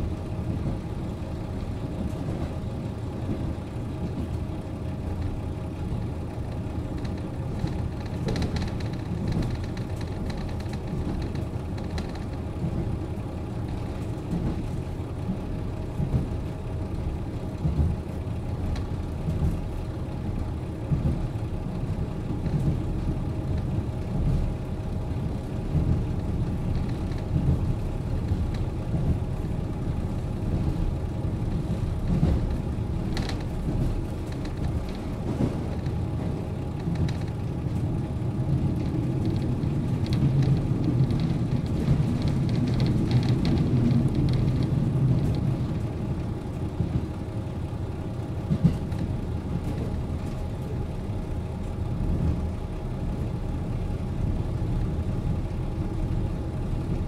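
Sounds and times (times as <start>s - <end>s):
diesel engine idling: 8.8s - 57.0s.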